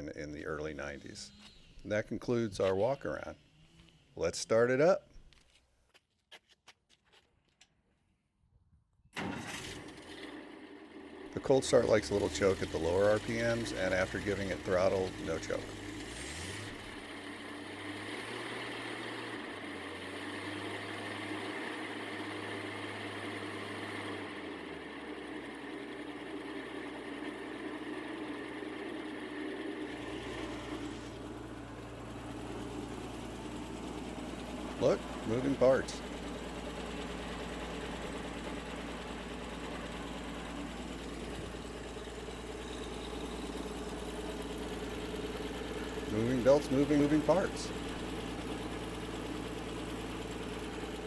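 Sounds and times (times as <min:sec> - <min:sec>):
engine running steadily: 0:09.2 - 0:51.0.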